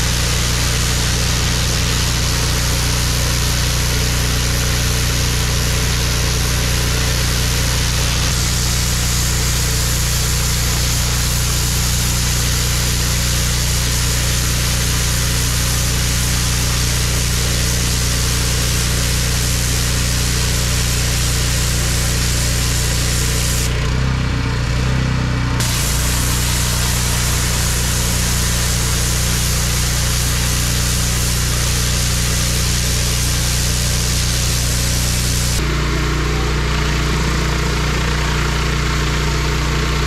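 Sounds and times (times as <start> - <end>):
high-pressure spray hissing: 0.0 - 23.7, 25.6 - 35.6
pressure washer engine hum: 0.0 - 40.0.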